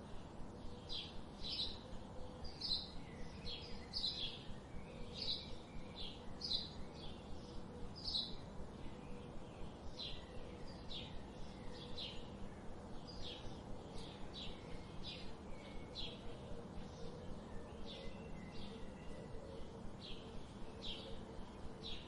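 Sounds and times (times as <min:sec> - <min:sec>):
low background hum: 0:00.0 - 0:22.0
birds chirping: 0:00.6 - 0:22.0.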